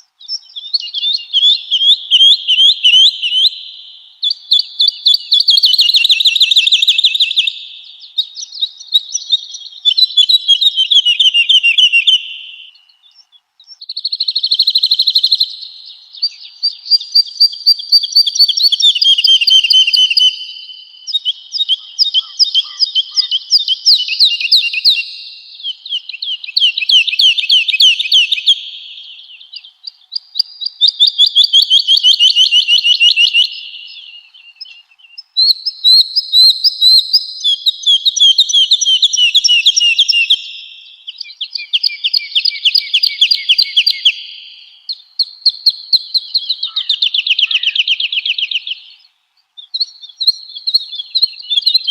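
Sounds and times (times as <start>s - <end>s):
woodlark singing trills: 0.0s - 51.9s.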